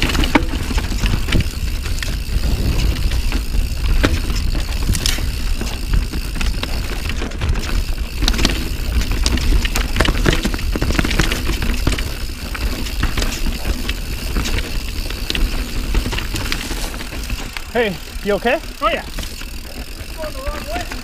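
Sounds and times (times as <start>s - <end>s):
bike chain and frame rattling: 0.0s - 21.0s
bike tyre rumble: 0.0s - 21.0s.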